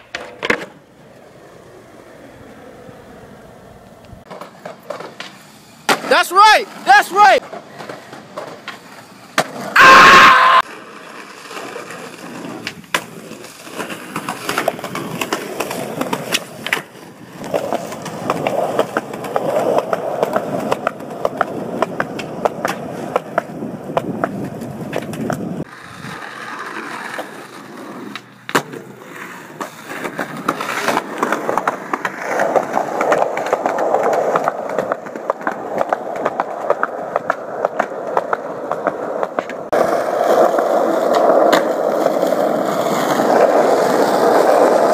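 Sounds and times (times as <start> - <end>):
skateboard wheels rolling: 0.0 - 44.9
skateboards clacking: 0.0 - 44.9.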